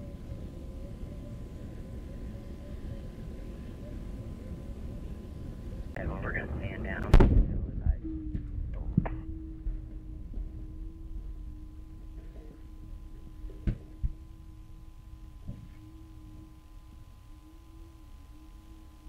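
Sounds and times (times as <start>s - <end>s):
low rumble of fire: 0.0s - 19.0s
wavering hum: 0.0s - 19.0s.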